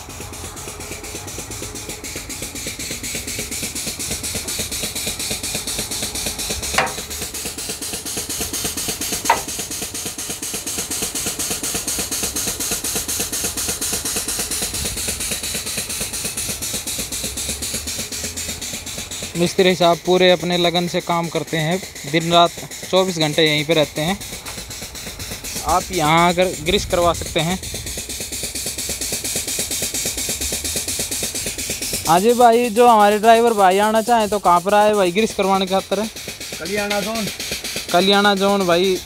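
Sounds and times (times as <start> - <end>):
machinery pulsing: 0.0 - 39.0.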